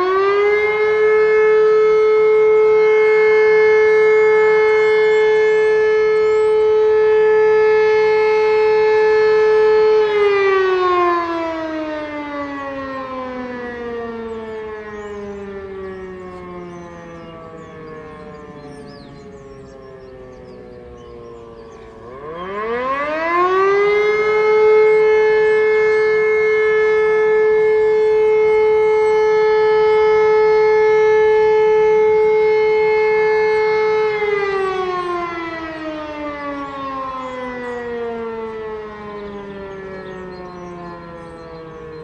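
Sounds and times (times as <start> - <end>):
motor siren wailing: 0.0 - 42.0.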